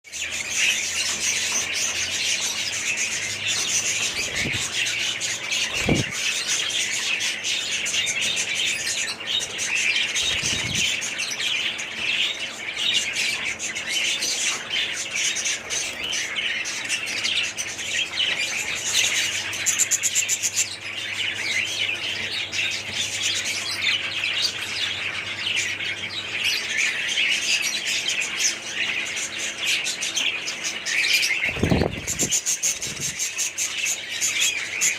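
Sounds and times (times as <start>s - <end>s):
parrots chattering and chirping: 0.1s - 34.9s.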